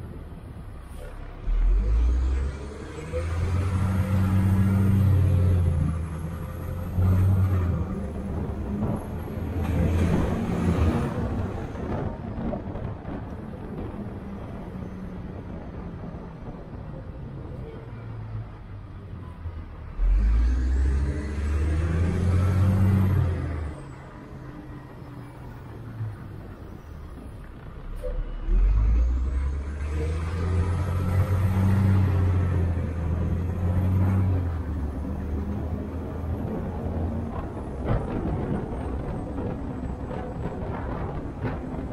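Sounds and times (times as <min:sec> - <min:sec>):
bus engine hum: 0:00.0 - 0:41.9
tyre and road noise: 0:00.0 - 0:41.9.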